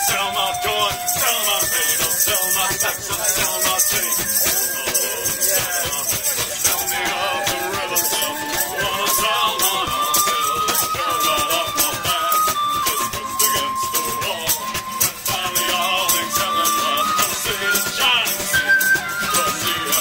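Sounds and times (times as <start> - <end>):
flute melody: 0.0 - 20.0
percussive beat: 0.0 - 20.0
strummed acoustic guitars: 0.0 - 20.0.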